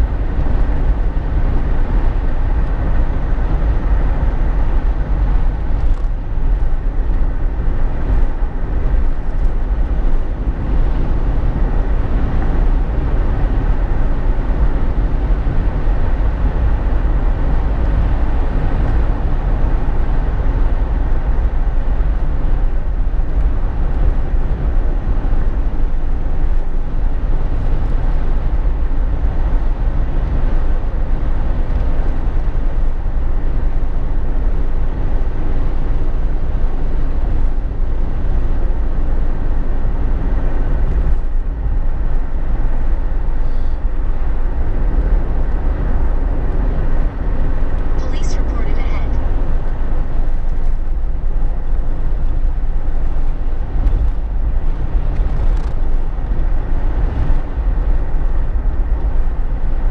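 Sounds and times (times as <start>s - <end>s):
road and wind noise: 0.0s - 59.9s
vehicle cabin low rumble: 0.0s - 59.9s.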